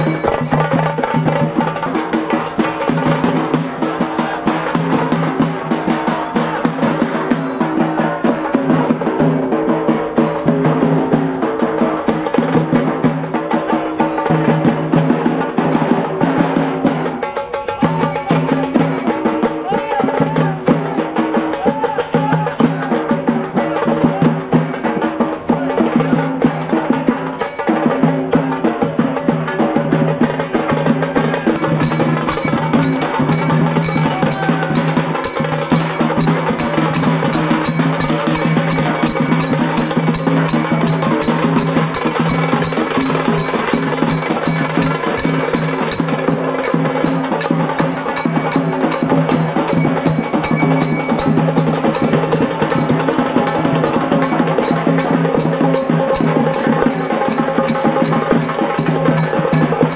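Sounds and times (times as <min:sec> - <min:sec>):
drums playing fast rhythm: 0:00.0 - 0:59.9.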